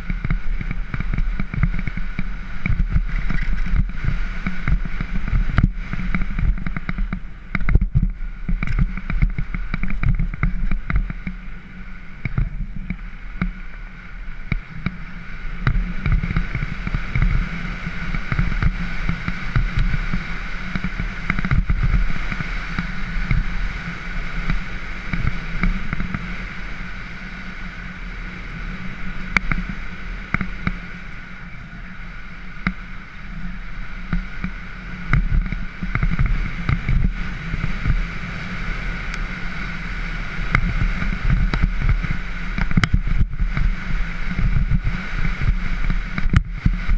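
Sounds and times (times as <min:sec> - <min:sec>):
bike rattling over bumps: 0:00.0 - 0:46.9
tyres rumbling over dirt: 0:00.0 - 0:46.9
wind buffeting microphone: 0:00.0 - 0:46.9.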